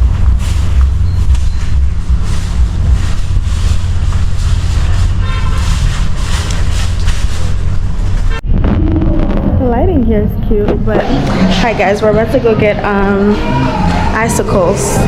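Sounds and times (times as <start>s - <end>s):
wind rumble on microphone: 0.0s - 13.3s
vehicle road noise: 0.0s - 14.2s.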